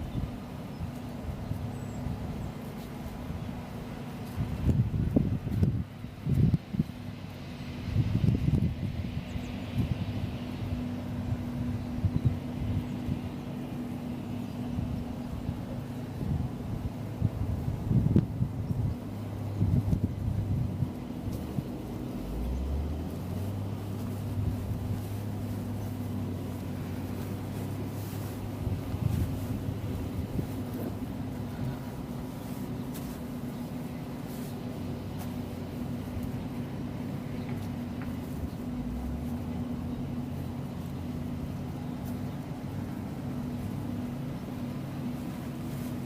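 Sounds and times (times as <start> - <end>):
diesel engine humming: 0.0 - 46.0.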